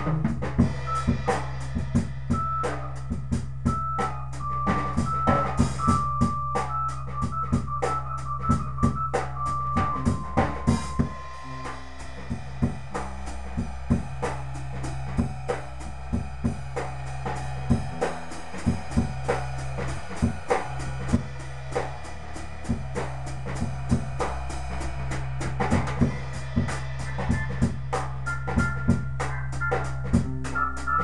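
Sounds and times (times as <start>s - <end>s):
drum kit playing a groove: 0.0s - 31.0s
low bass notes: 0.0s - 31.0s.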